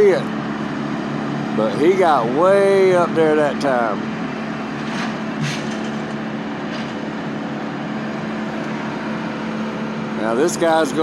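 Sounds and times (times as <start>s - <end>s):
machinery engine idling drone: 0.0s - 11.0s.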